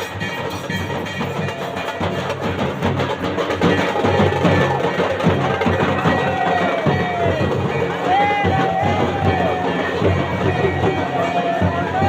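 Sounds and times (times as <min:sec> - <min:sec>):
drums beaten in fast rhythm: 0:00.0 - 0:12.0.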